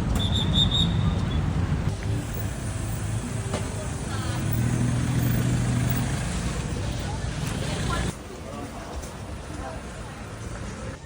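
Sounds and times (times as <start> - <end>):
steady engine hum: 0.0 - 11.0
vehicle engines rumbling: 0.0 - 11.0.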